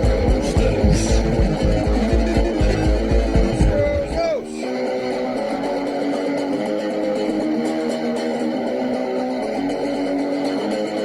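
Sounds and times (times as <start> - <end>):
instrumental rock music: 0.0 - 11.0.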